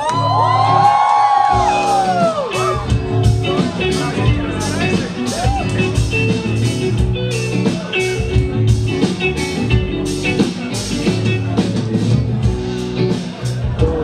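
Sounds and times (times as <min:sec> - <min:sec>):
drums with steady beat: 0:00.0 - 0:14.0
electric guitars: 0:00.0 - 0:14.0.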